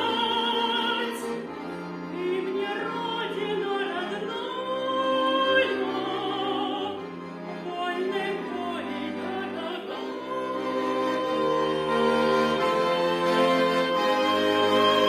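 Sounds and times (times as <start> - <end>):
woman singing classical style: 0.0 - 1.5, 2.1 - 7.0, 7.6 - 15.0
instrumental accompaniment: 0.0 - 15.0.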